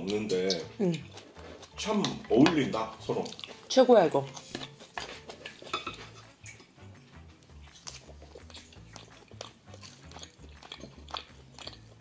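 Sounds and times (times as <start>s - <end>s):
person chewing food: 0.0s - 12.0s
quiet background music: 0.0s - 12.0s.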